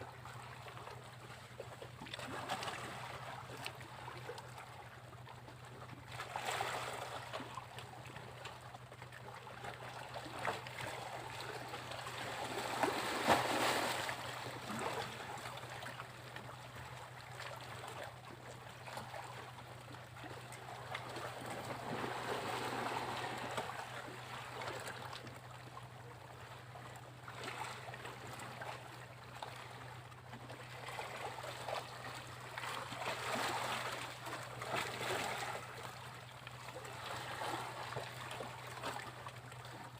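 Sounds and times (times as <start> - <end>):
sea waves breaking on a beach: 0.0 - 5.2, 5.8 - 8.5, 9.1 - 39.9.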